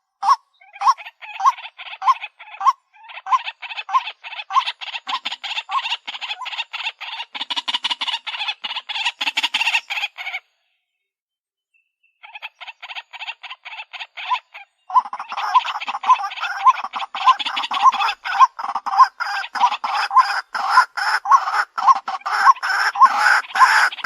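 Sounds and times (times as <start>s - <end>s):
waterhens calling harshly: 0.2s - 10.4s, 12.2s - 24.0s.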